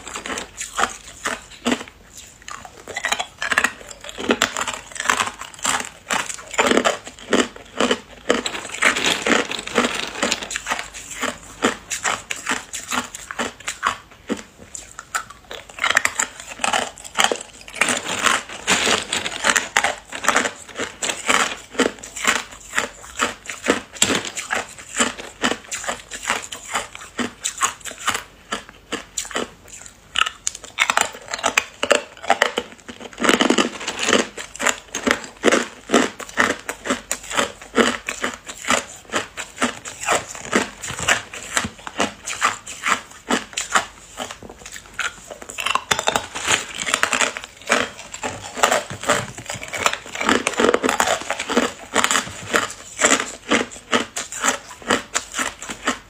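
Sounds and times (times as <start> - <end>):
ice cubes crunching: 0.0 - 1.9, 2.5 - 56.0.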